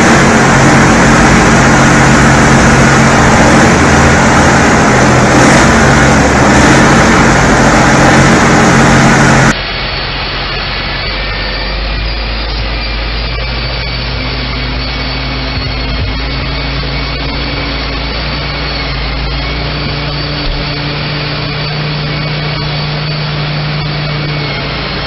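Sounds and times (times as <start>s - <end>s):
heavy machine engine running: 0.0s - 25.0s
quieter engine running: 0.0s - 25.0s.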